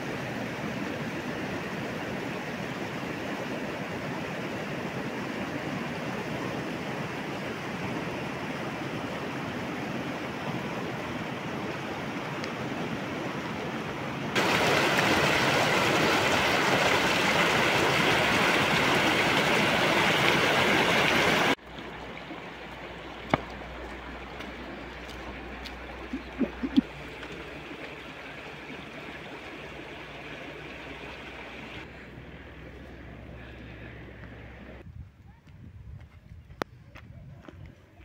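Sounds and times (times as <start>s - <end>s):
stream water rushing: 0.0s - 33.5s
quieter river water flowing: 0.0s - 34.8s.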